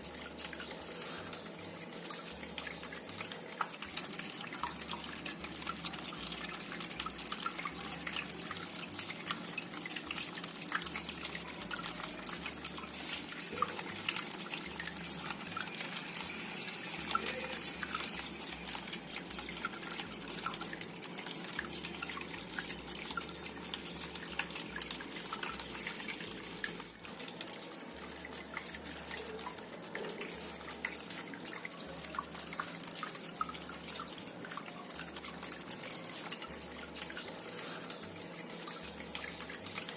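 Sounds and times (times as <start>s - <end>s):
fountain water trickling and dripping: 0.0s - 39.9s.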